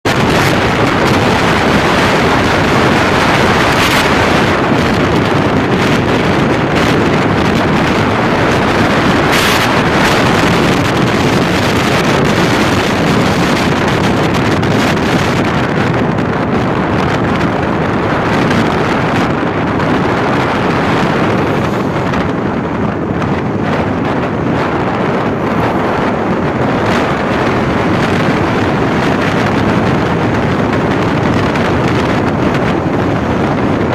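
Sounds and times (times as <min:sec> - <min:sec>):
strong wind on microphone: 0:00.0 - 0:33.9.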